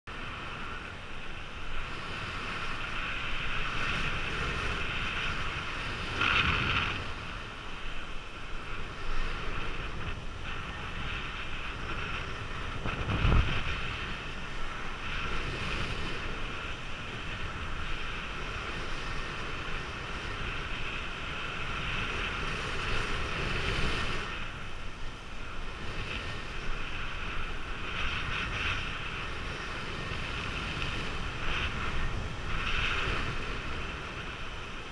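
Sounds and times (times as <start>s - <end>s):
airflow rushing over microphone: 0.1s - 34.9s.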